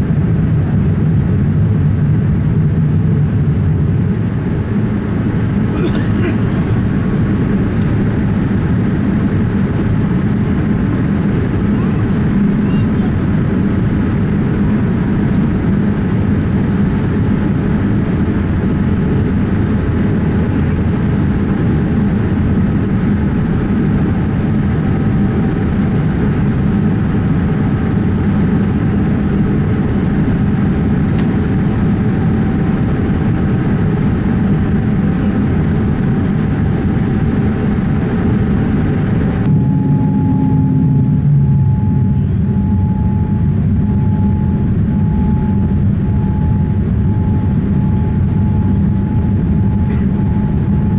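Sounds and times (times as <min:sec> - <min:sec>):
airplane cabin rumble and hiss: 0:00.0 - 0:50.9
steady hum: 0:00.0 - 0:50.9.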